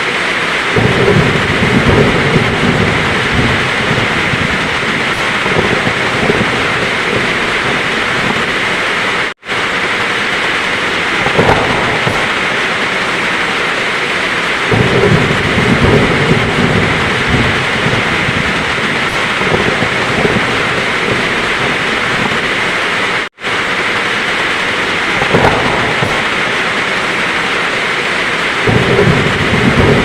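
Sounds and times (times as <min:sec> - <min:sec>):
heavy rain falling: 0:00.0 - 0:30.0
low thunder rumbling: 0:00.3 - 0:30.0.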